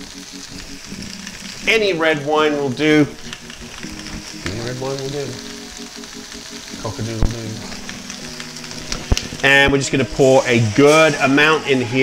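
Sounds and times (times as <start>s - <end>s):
meat and vegetables sizzling in pot: 0.0s - 12.0s.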